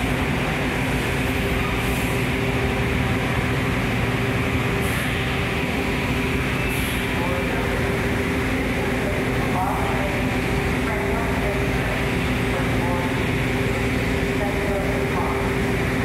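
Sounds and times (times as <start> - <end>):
subway train hum and rumble: 0.0 - 16.0.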